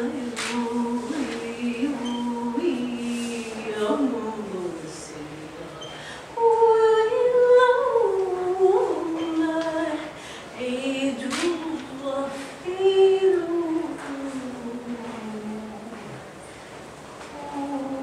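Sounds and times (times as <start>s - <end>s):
woman singing unaccompanied: 0.0s - 5.8s, 6.4s - 16.2s, 17.3s - 18.0s.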